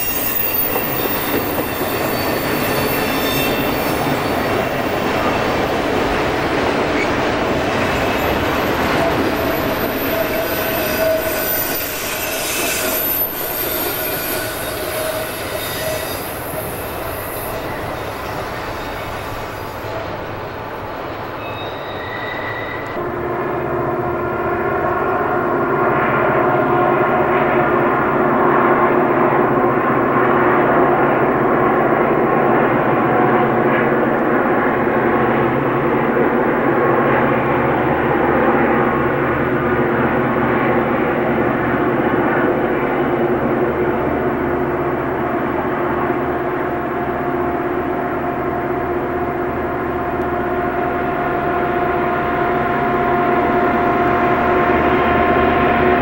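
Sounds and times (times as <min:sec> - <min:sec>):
diesel locomotives engine drone: 0:00.0 - 0:56.0.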